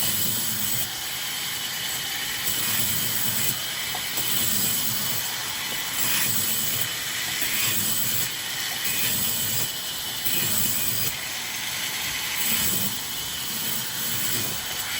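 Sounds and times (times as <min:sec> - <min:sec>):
sawmill saw cutting wood: 0:00.0 - 0:14.9.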